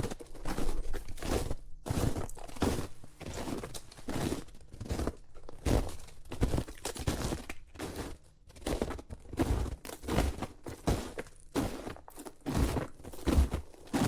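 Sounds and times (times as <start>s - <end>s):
footsteps crunching in snow: 0.0s - 14.0s.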